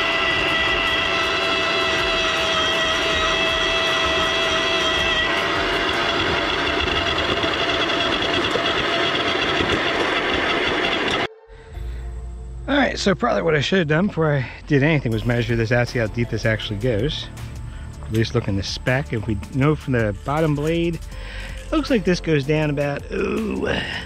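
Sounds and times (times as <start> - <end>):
earth auger motor whining: 0.0 - 12.8, 14.0 - 24.0.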